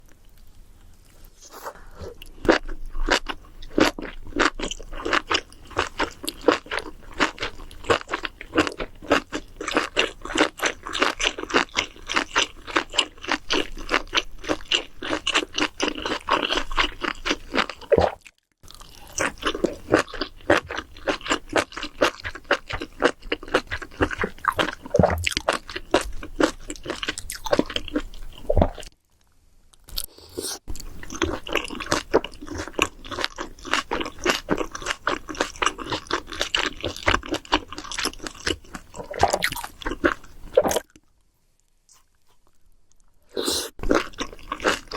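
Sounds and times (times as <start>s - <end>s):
chewing crisp food: 2.1s - 29.0s, 29.8s - 44.9s.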